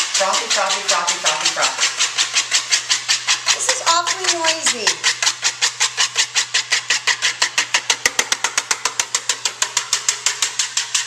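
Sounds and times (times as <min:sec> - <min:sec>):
whisk beating in plastic bowl: 0:00.0 - 0:11.0.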